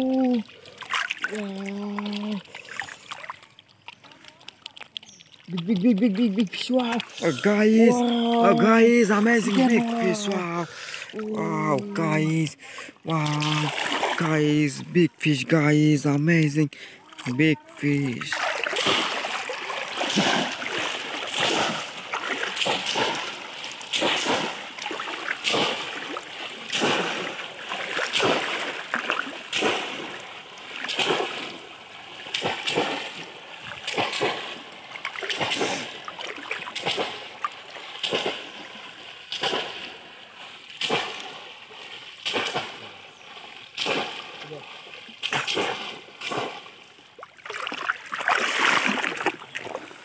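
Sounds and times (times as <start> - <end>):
people wading through water: 0.0 - 50.0
splashing of muddy water: 0.0 - 50.0.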